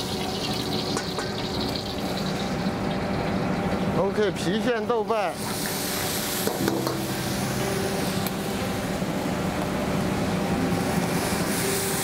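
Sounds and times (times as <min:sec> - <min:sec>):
gas burner roar: 0:00.0 - 0:12.0.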